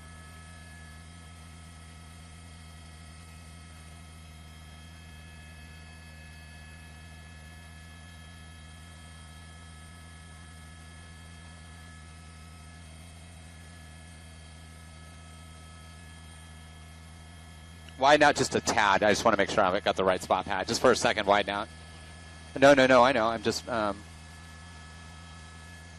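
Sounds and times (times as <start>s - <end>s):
electrical hum: 0.0s - 25.9s.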